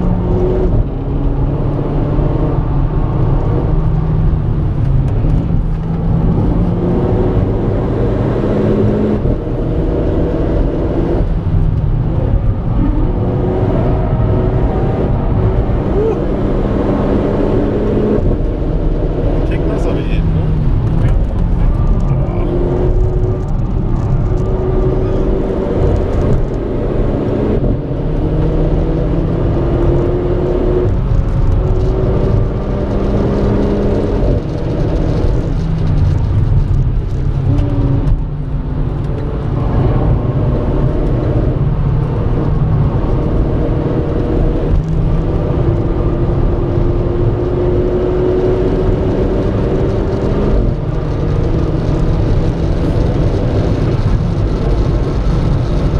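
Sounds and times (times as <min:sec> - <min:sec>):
car engine pulling hard: 0:00.0 - 0:55.9
road and wind rumble: 0:00.0 - 0:55.9.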